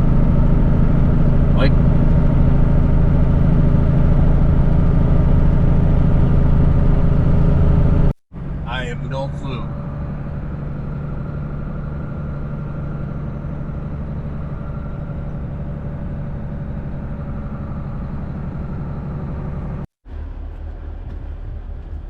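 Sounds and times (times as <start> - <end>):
diesel truck engine drone: 0.0 - 22.0.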